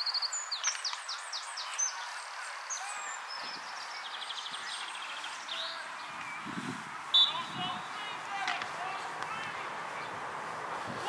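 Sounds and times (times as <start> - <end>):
outdoor background hiss: 0.0 - 11.0
songbirds chirping: 0.0 - 11.0.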